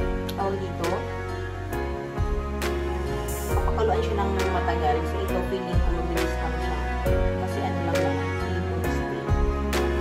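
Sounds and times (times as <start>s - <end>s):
sustained bass line: 0.0s - 10.0s.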